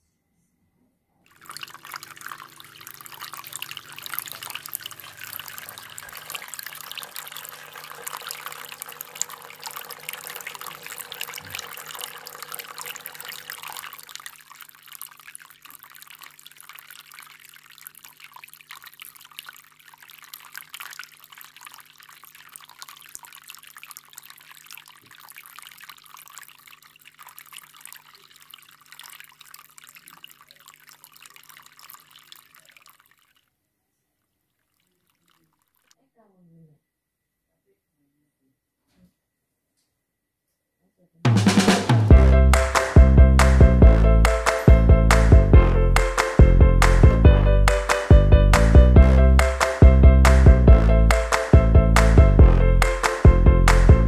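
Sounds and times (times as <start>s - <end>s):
water pouring and splashing: 1.3s - 33.6s, 34.5s - 36.0s, 41.5s - 54.0s
water trickling and dripping: 1.3s - 33.6s, 34.3s - 36.0s, 42.5s - 52.2s.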